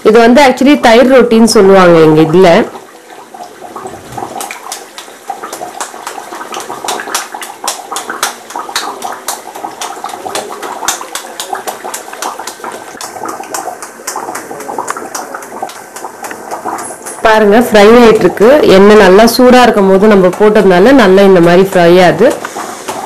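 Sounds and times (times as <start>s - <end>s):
deep-frying sizzle with pops: 0.0s - 23.0s.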